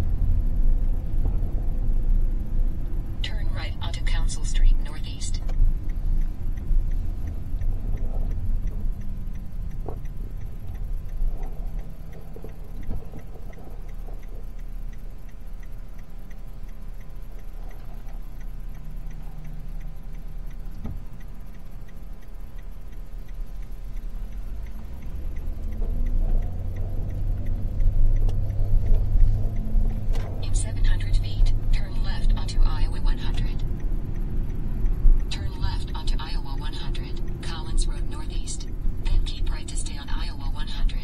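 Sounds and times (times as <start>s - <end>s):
engine and road rumble: 0.0s - 41.0s
turn signal ticking: 0.0s - 41.0s.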